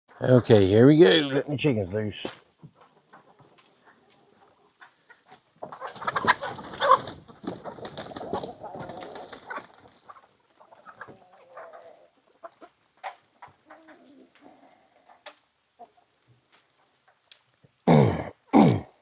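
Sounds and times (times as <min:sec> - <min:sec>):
chickens clucking: 0:00.1 - 0:17.8.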